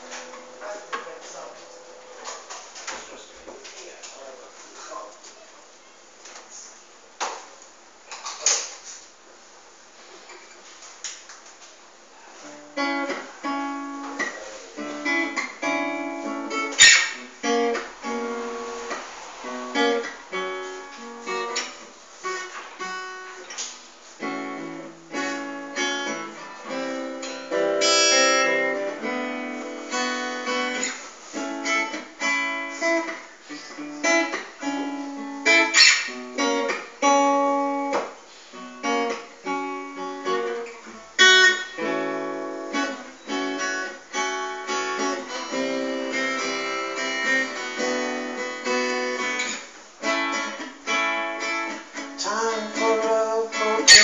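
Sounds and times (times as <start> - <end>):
acoustic guitar playing: 0.0 - 3.4, 10.0 - 54.0.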